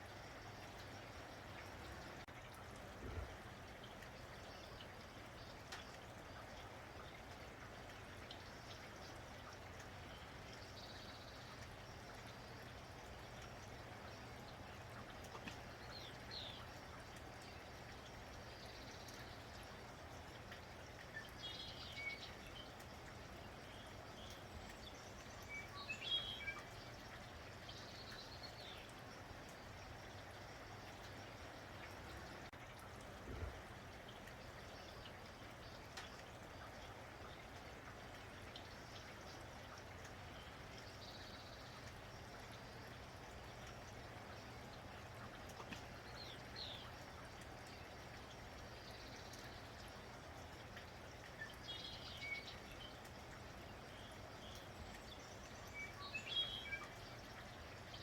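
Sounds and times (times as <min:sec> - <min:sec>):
faint rain: 0:00.0 - 0:58.0.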